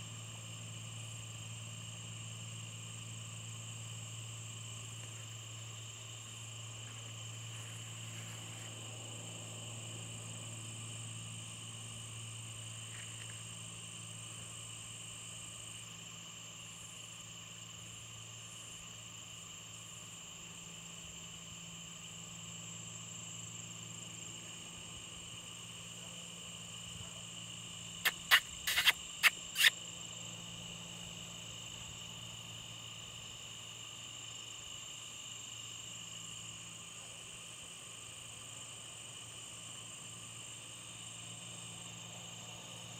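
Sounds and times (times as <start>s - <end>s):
crickets and insects chirping: 0.0s - 42.9s
steady low hum: 0.0s - 42.9s.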